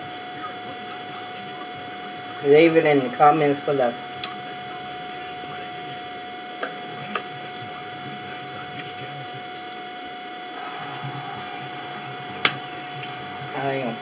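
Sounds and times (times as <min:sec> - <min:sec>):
electrical hum and hiss: 0:00.0 - 0:14.0
faint high whine: 0:00.0 - 0:14.0.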